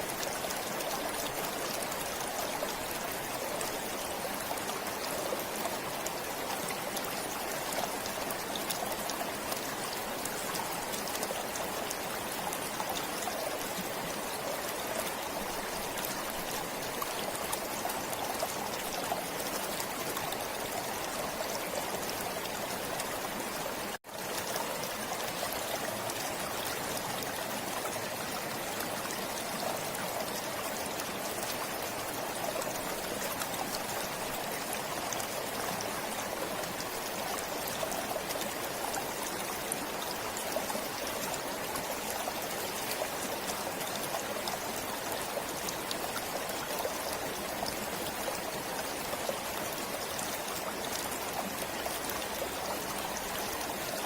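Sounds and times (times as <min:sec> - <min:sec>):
forest stream trickling: 0:00.0 - 0:54.0.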